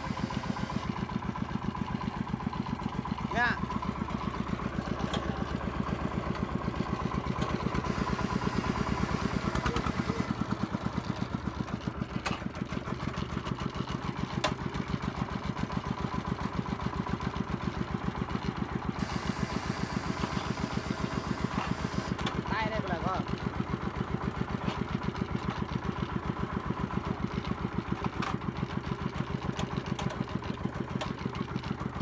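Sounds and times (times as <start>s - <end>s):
single-cylinder engine chugging: 0.0s - 32.0s.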